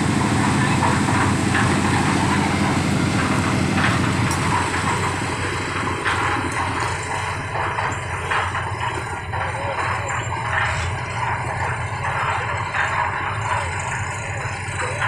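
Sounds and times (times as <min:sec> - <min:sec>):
concrete mixer engine pulsing: 0:00.0 - 0:15.0.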